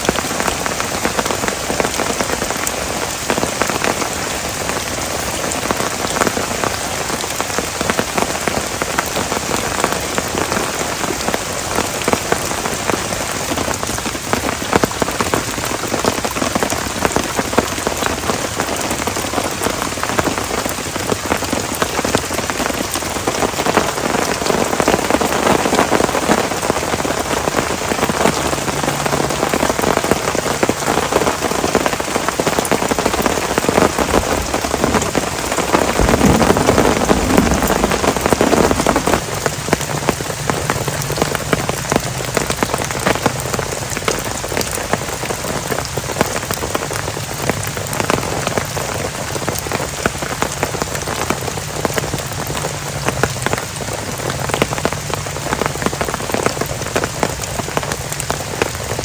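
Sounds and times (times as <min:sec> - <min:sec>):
heavy rain pouring: 0:00.0 - 0:59.0
raindrops pattering on surface: 0:00.0 - 0:59.0.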